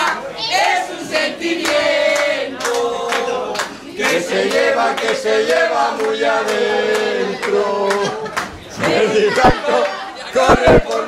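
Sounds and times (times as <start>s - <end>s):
group singing a chant: 0.0s - 11.0s.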